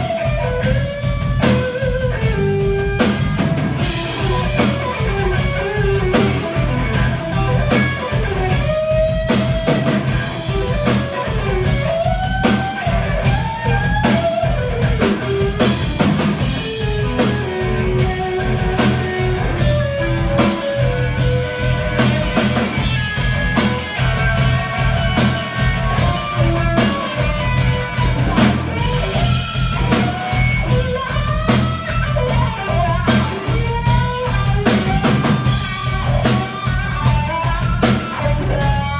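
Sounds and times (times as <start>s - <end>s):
drum kit beat: 0.0s - 38.9s
electric bass: 0.0s - 38.9s
electric guitar lead: 0.0s - 38.9s.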